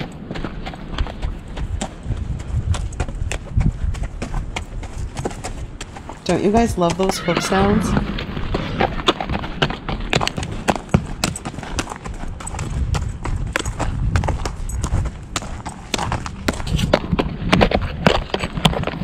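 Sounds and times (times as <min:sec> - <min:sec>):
horse hooves on gravel: 0:00.0 - 0:19.0.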